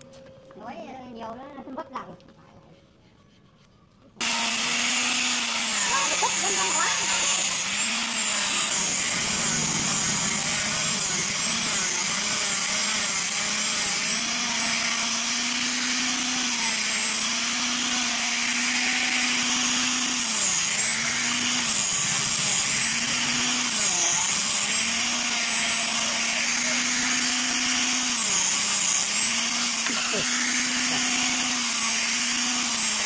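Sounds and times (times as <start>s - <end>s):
angle grinder sanding wood: 4.2s - 33.0s.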